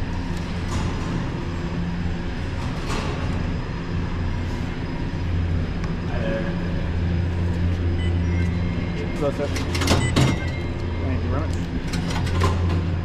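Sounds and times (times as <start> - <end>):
vehicle hum inside cabin: 0.0 - 13.0.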